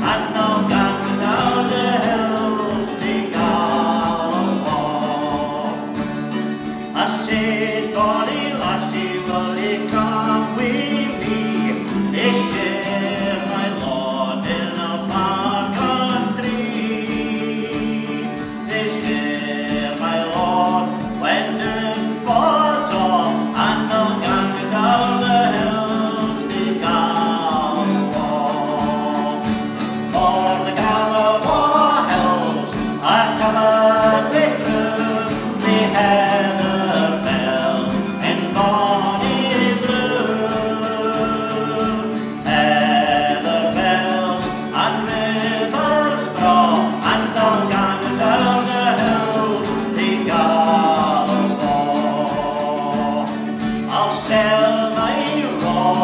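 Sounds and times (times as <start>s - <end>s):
song with singing: 0.0s - 56.0s.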